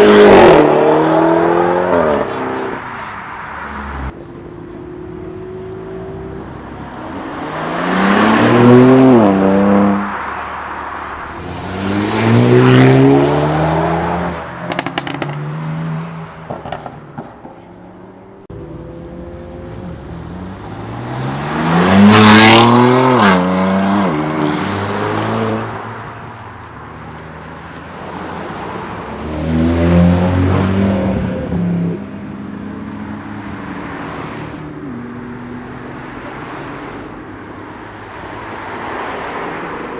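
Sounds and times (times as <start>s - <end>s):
cars accelerating past: 0.0s - 4.2s, 5.5s - 16.9s, 18.6s - 26.3s, 27.5s - 37.1s.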